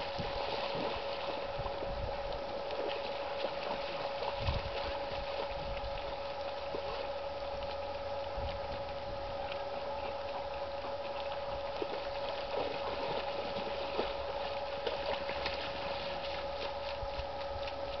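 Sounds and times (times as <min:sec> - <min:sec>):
dogs splashing through water: 0:00.0 - 0:18.0
steady hum: 0:00.0 - 0:18.0.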